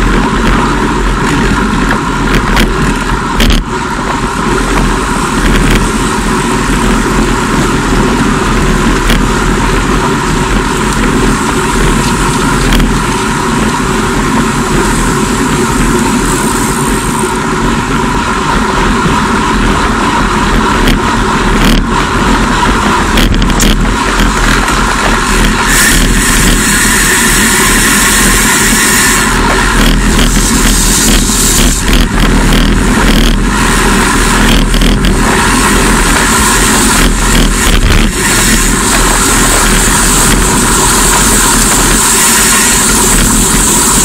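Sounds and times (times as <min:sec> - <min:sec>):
road noise: 0:00.0 - 0:44.0
wind rushing on microphone: 0:00.0 - 0:44.0.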